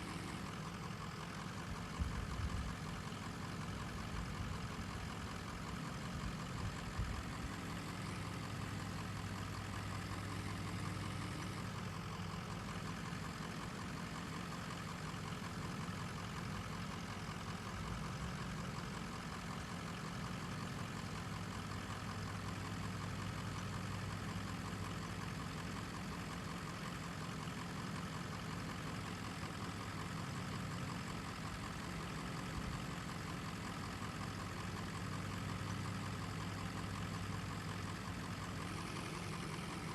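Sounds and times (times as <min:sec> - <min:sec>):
diesel engine idling low: 0:00.0 - 0:39.9.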